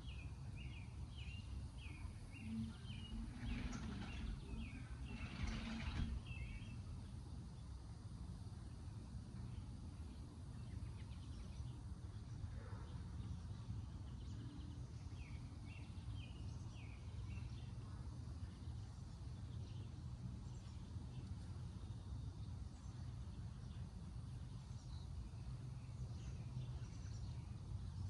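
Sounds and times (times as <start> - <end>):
small birds chirping: 0.0 - 8.4, 9.1 - 28.0.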